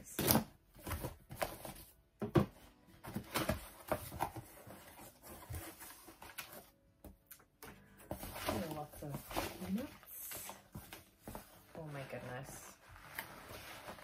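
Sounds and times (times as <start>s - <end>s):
cardboard parcel rustling: 0.0s - 14.0s.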